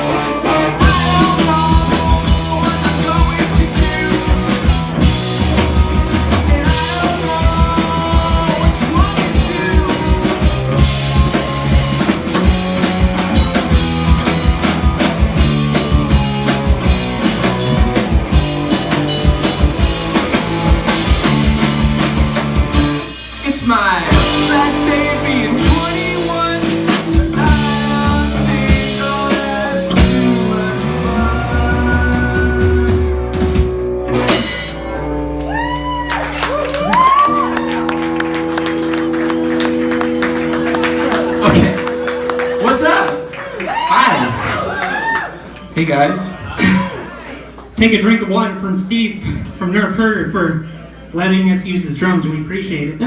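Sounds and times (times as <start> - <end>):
drum kit: 0.0 - 45.2
electric guitars: 0.0 - 45.2
live rock band playing: 0.0 - 45.6.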